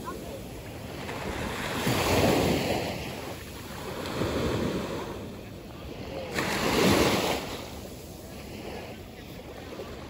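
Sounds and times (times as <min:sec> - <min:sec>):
small waves breaking on sand: 0:00.0 - 0:10.0.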